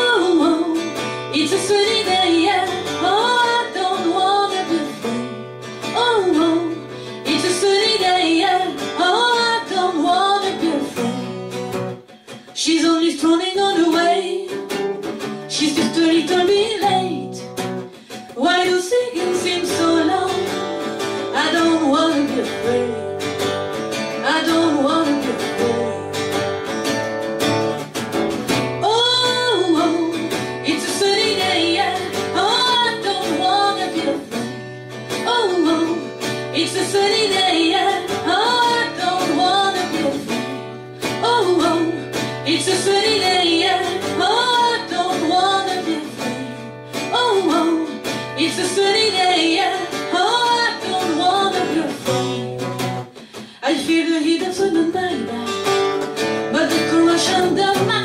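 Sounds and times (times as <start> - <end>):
woman singing into microphone: 0.0 - 11.4, 12.3 - 26.3, 28.8 - 58.0
acoustic guitar: 0.0 - 58.0.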